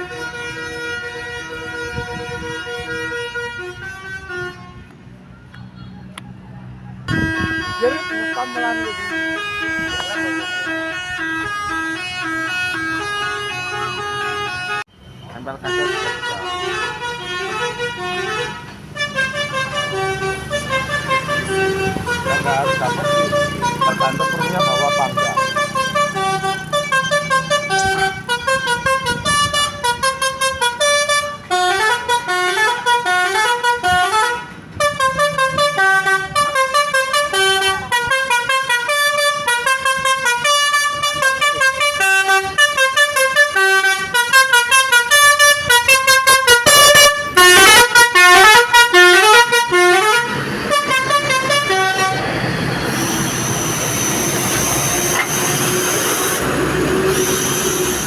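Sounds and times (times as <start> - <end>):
multi-tone bus air horn melody: 0.0 - 5.4, 7.1 - 58.0.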